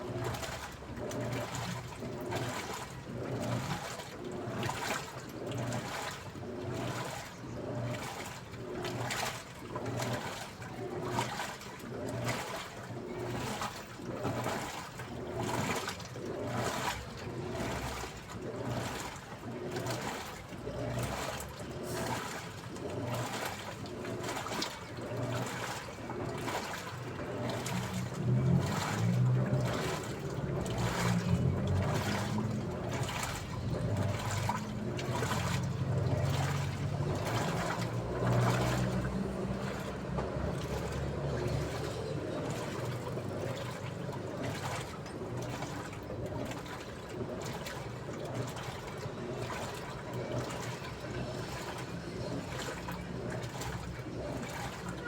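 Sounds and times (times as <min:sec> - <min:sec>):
washing machine motor hum: 0:00.0 - 0:55.0
water sloshing in drum: 0:00.0 - 0:55.0.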